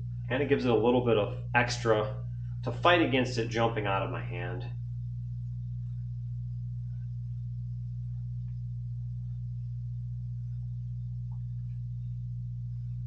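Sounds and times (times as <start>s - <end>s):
low electrical mains hum: 0.0s - 13.0s.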